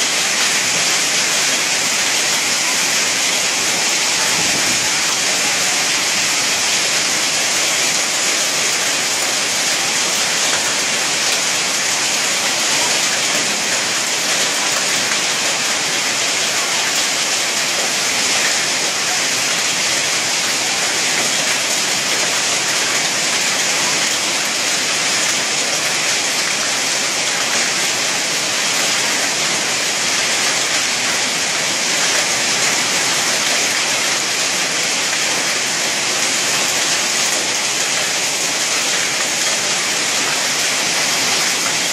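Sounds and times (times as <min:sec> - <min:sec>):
heavy rain and hail: 0:00.0 - 0:41.9.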